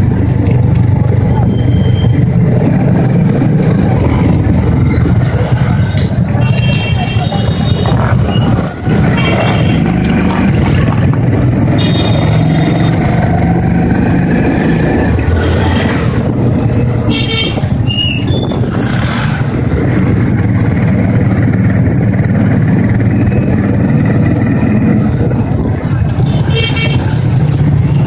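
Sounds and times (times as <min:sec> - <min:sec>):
motorcycle engines humming: 0:00.0 - 0:28.0.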